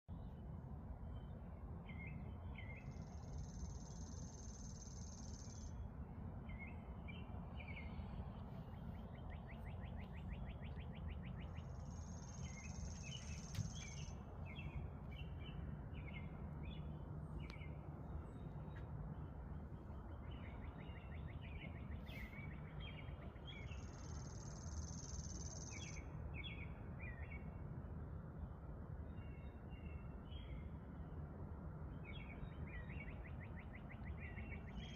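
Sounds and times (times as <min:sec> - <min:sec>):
low background hiss: 0:00.1 - 0:34.9
songbirds chirping and trilling: 0:00.1 - 0:34.9.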